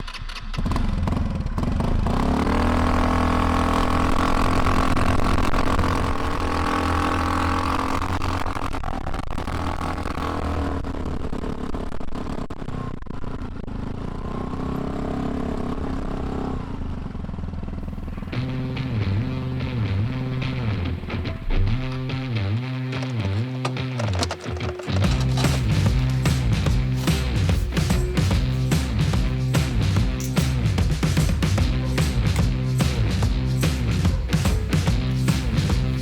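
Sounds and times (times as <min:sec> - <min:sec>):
vehicle engine running: 0:00.6 - 0:13.6, 0:16.9 - 0:36.0.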